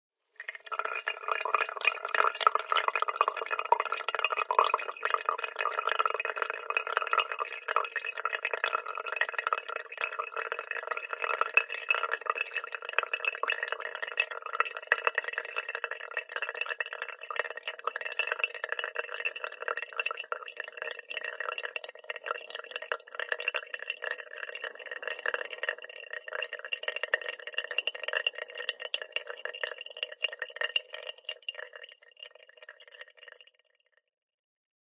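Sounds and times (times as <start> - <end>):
coffee dripping into glass pot: 0.4 - 34.1.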